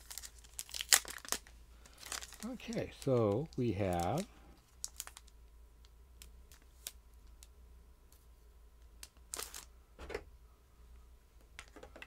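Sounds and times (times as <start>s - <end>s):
small items handled by hand: 0.0s - 5.4s, 6.2s - 10.2s, 11.4s - 12.0s.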